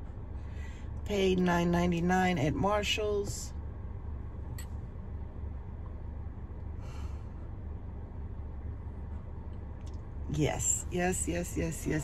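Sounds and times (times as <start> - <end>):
low rumble inside a car: 0.0 - 12.0.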